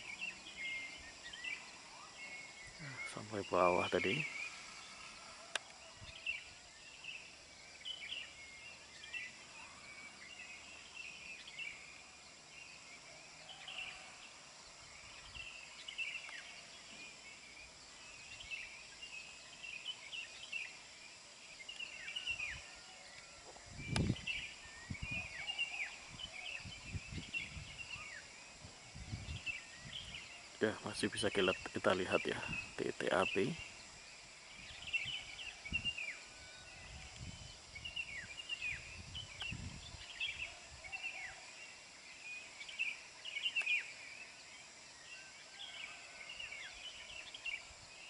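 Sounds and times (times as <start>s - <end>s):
high insect drone: 0.0s - 48.0s.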